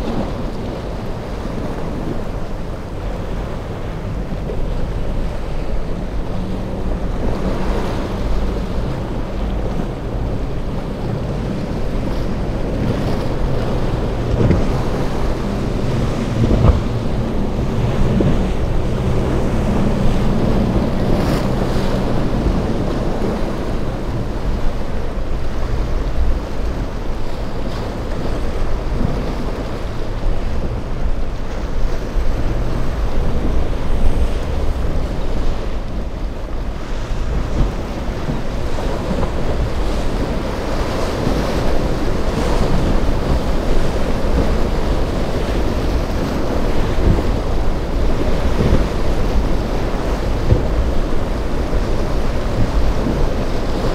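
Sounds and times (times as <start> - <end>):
boat engines running: 0.0 - 53.9
ocean surf breaking: 0.0 - 53.9
wind noise on microphone: 0.0 - 53.9.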